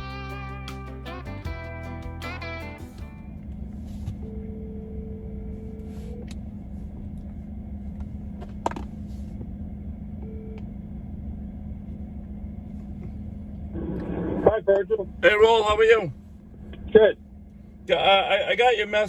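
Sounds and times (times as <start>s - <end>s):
low vehicle rumble and hum: 0.0s - 19.0s.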